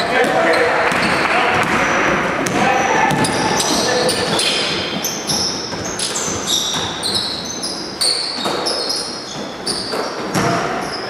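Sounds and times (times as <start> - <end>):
basketball dribbling thuds: 0.0 - 11.0
shoes squeaking on court floor: 0.0 - 11.0.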